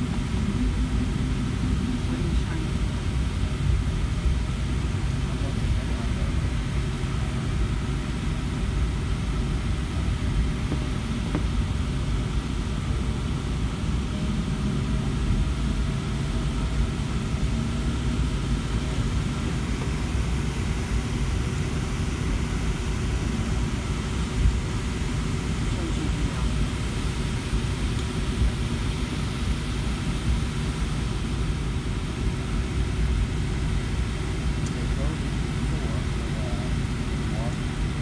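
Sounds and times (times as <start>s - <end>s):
aircraft engines rumbling in cabin: 0.0s - 38.0s
faint hum: 0.0s - 38.0s.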